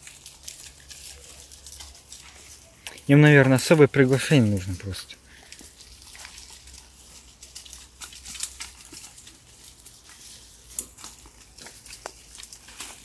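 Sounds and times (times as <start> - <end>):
twigs crackling underfoot: 0.0 - 13.0.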